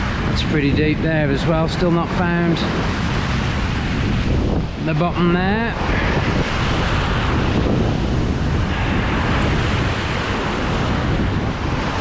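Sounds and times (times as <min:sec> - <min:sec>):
sea surf washing: 0:00.0 - 0:12.0
wind rumbling on microphone: 0:00.0 - 0:12.0.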